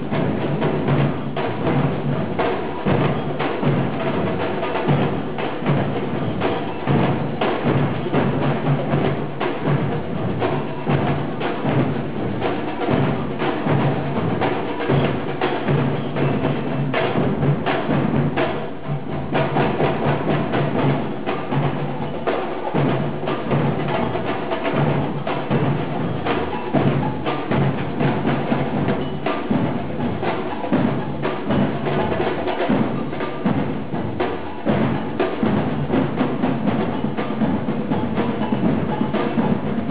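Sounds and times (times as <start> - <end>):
percussion-heavy music: 0.0 - 39.9.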